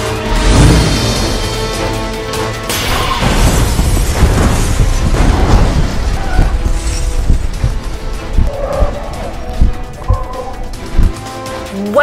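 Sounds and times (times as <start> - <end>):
dramatic music: 0.0 - 12.0.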